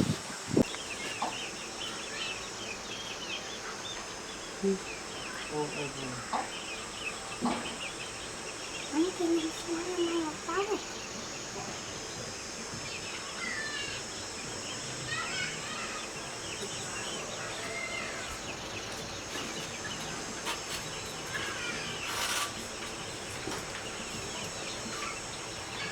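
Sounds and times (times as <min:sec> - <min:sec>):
insect chirps: 0:00.0 - 0:25.9
insects droning: 0:00.0 - 0:25.9.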